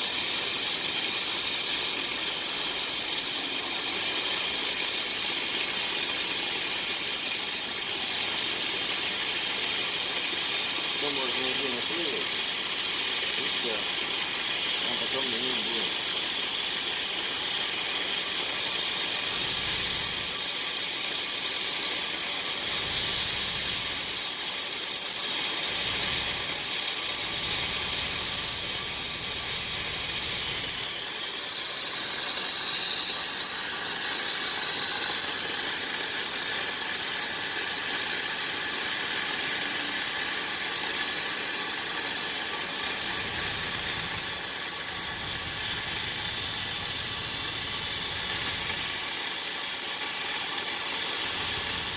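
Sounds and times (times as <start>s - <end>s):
gas cutting torch hissing: 0.0s - 51.9s.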